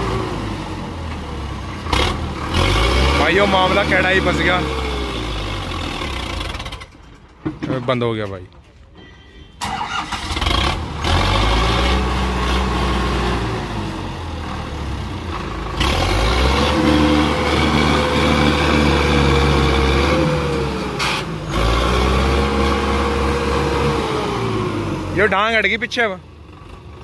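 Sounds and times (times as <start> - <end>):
tractor diesel engine straining: 0.0 - 27.0.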